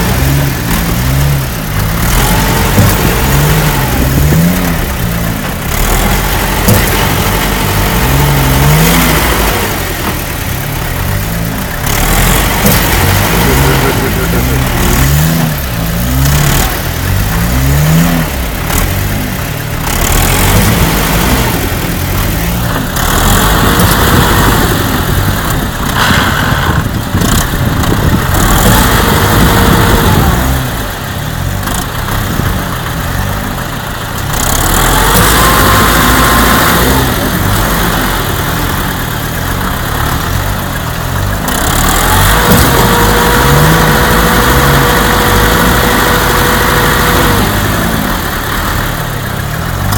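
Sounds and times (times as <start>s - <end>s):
vehicle engines revving under load: 0.0s - 49.9s.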